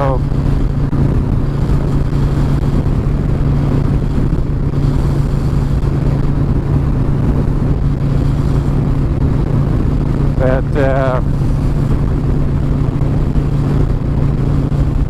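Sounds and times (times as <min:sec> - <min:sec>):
motorcycle engine running: 0:00.0 - 0:15.0
road noise: 0:00.0 - 0:15.0
wind rushing: 0:00.0 - 0:15.0.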